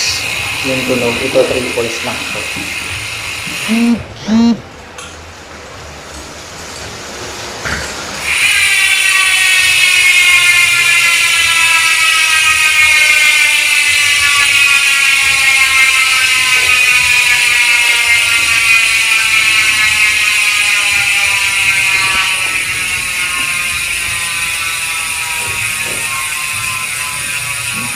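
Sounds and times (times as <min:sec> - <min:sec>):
bicycle freehub ratcheting: 0:00.0 - 0:03.9, 0:08.2 - 0:27.9.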